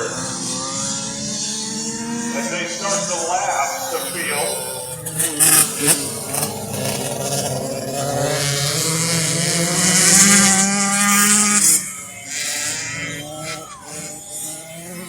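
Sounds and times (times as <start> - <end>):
dirt bike engine revving: 0.0 - 15.0
distant dirt bike engines: 0.0 - 15.0.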